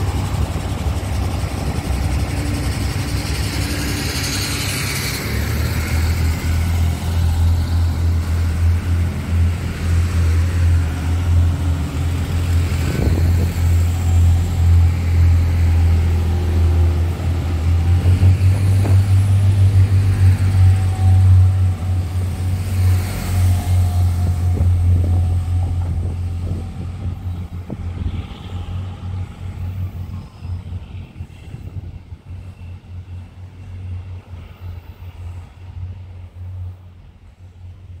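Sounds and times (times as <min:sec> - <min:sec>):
train engine rumble: 0:00.0 - 0:38.0.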